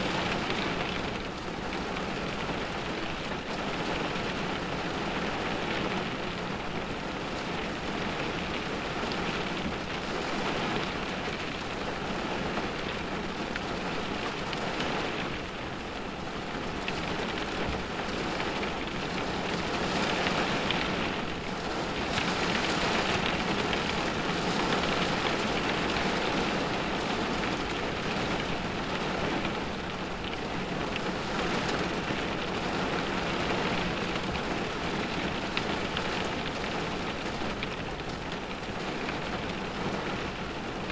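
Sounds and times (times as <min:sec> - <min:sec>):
rain drumming on a car roof: 0:00.0 - 0:40.9.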